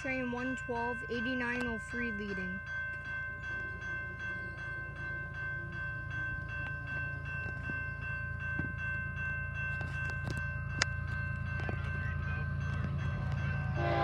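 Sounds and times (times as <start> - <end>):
freight train rumble: 0.0 - 14.0
railroad crossing bell ringing: 0.0 - 14.0.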